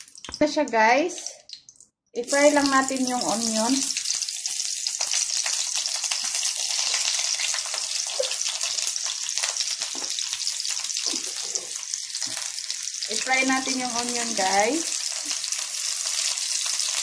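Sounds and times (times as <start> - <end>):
onion sizzling in oil: 2.2 - 17.0.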